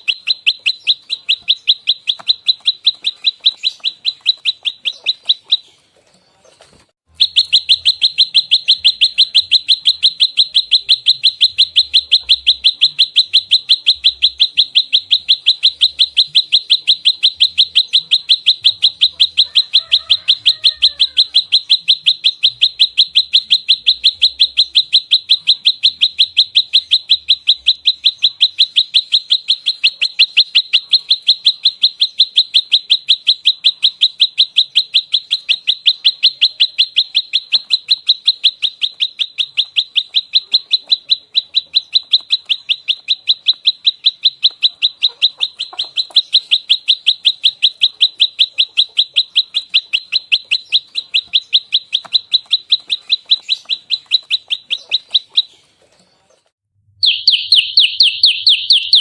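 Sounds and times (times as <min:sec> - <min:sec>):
bird rapid sharp notes: 0:00.0 - 0:05.9, 0:06.5 - 0:55.6, 0:57.0 - 0:59.0.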